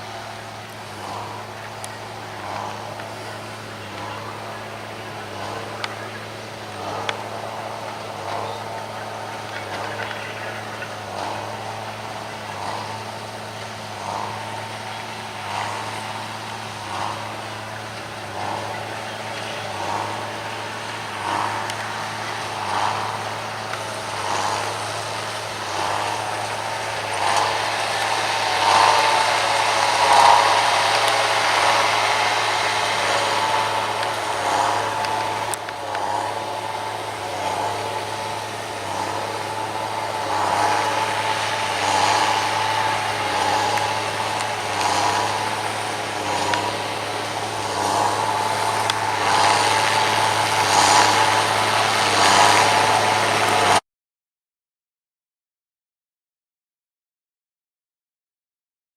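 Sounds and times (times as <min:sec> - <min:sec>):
tractor engine under load: 0:00.0 - 0:53.8.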